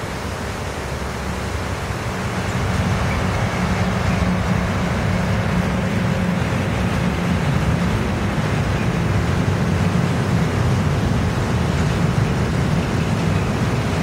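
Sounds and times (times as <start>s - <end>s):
train rumbling by: 0.0s - 14.0s.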